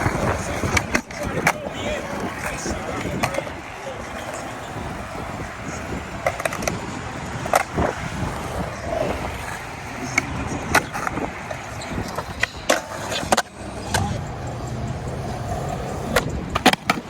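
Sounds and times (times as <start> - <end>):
skateboard popping and landing clacks: 0.0 - 17.0
skateboard wheels rolling on concrete: 0.0 - 17.0.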